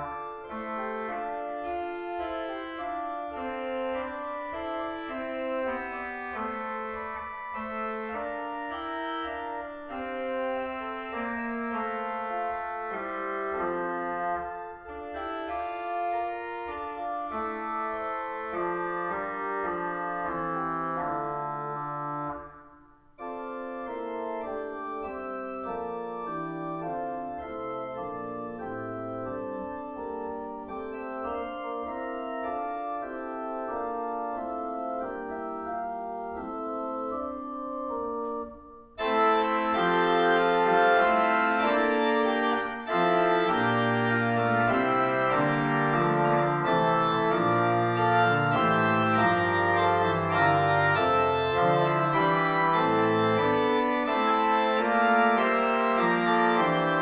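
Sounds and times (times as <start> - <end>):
organ chords: 0.0 - 57.0.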